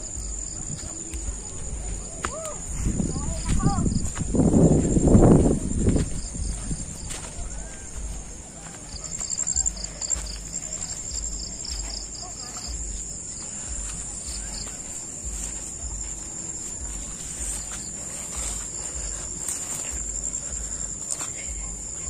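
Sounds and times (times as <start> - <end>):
footstep thuds on trail: 0.0 - 22.0
insects chirring high-pitched: 0.0 - 22.0
pulsing insect chirp: 0.0 - 22.0.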